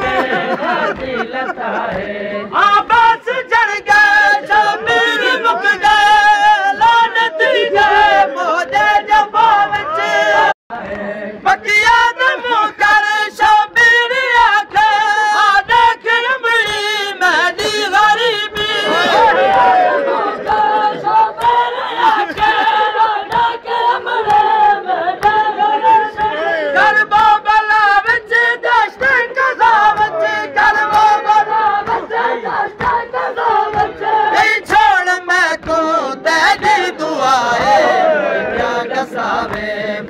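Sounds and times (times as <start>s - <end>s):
men chanting together: 0.0s - 40.0s
person reciting verses: 0.0s - 40.0s.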